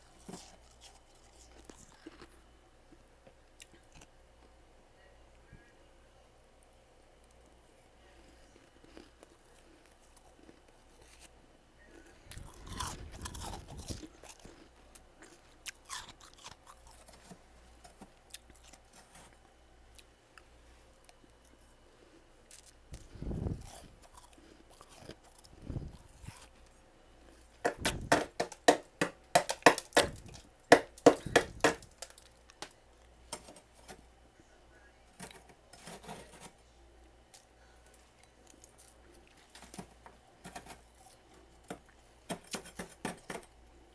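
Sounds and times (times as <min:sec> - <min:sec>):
frost being chewed crunching: 0:00.0 - 0:04.5, 0:06.5 - 0:34.0, 0:35.2 - 0:43.6.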